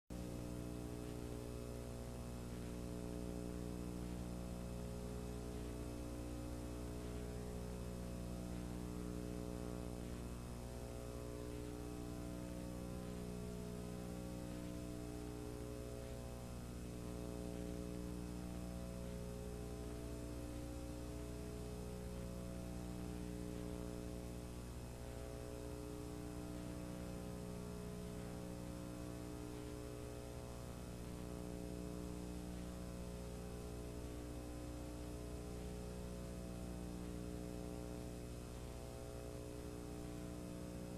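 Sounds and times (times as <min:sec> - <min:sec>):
electrical hum of held tones: 0:00.1 - 0:40.9.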